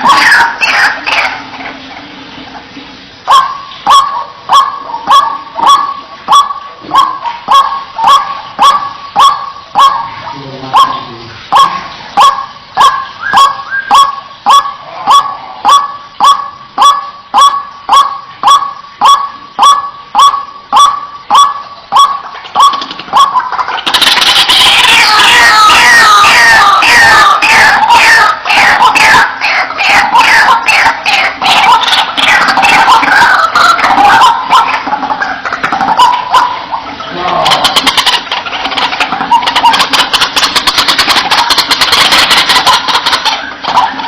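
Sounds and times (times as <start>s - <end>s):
waterhen wak-wak call: 0.0s - 44.0s.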